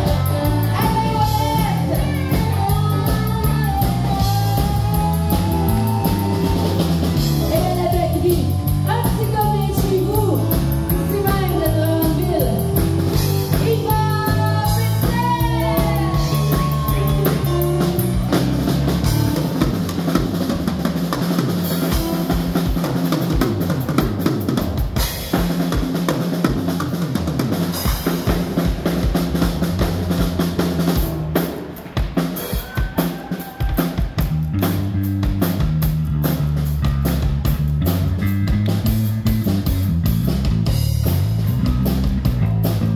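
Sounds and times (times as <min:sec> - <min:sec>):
drum fills and snare hits: 0:00.0 - 0:42.9
live band music: 0:00.0 - 0:42.9.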